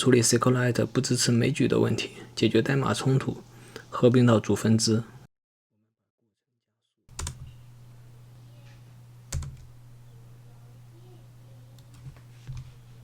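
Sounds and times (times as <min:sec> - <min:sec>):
low electrical hum: 0:00.0 - 0:05.3, 0:07.1 - 0:13.0.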